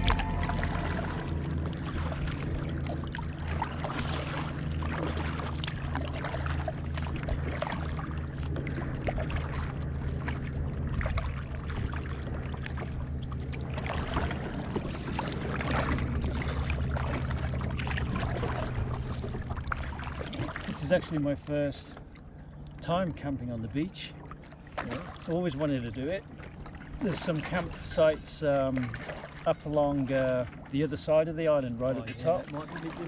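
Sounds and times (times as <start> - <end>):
paddle strokes splashing: 0.0 - 22.8, 24.1 - 33.0
steady low hum: 0.0 - 33.0
water gurgling along hull: 0.0 - 33.0.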